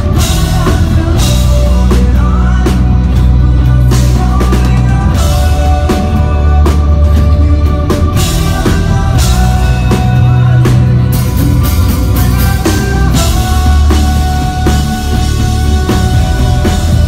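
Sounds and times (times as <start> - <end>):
drum kit beat: 0.0 - 17.0
heavy bass: 0.0 - 17.0.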